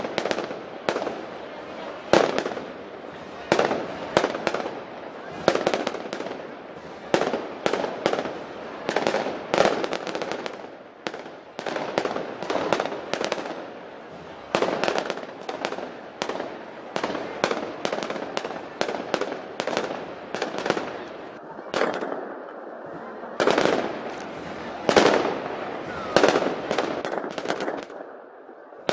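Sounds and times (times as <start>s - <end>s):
firecracker bangs and crackling: 0.0s - 22.4s, 23.4s - 28.1s.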